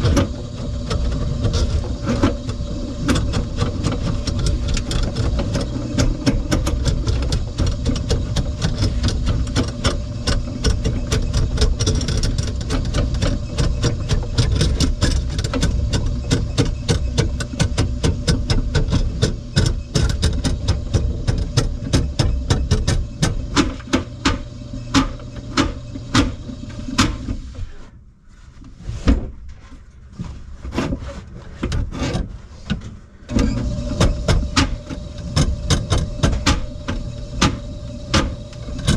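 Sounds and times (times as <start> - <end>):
drain snake motor humming: 0.0 - 27.6, 33.3 - 38.9.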